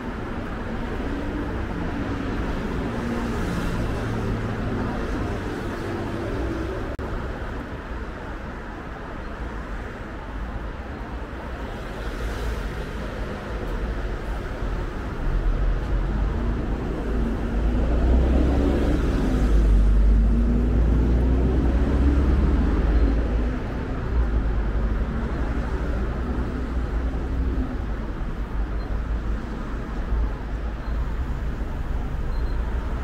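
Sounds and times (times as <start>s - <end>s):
low rumble of traffic: 0.0s - 33.0s.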